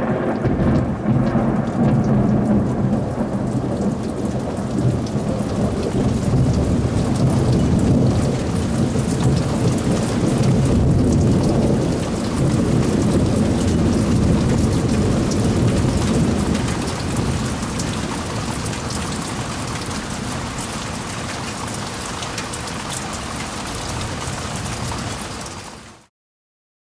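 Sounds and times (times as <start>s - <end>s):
low rumble of thunder: 0.0s - 22.1s
heavy rain pouring: 0.0s - 26.1s.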